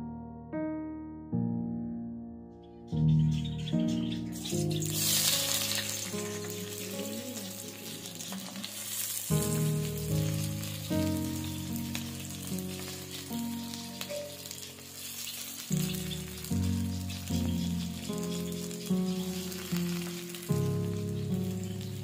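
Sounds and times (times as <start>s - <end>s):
background music: 0.0s - 22.0s
onions sizzling in hot oil: 3.7s - 22.0s.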